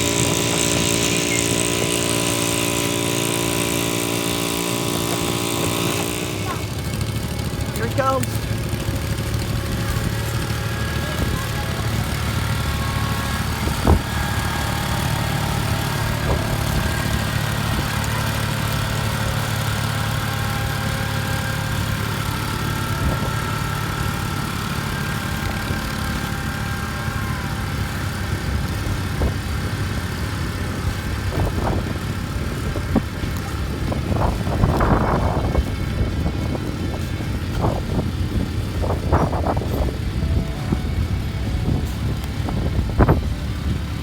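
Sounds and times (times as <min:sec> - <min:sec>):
garden tractor engine running: 0:00.0 - 0:44.0.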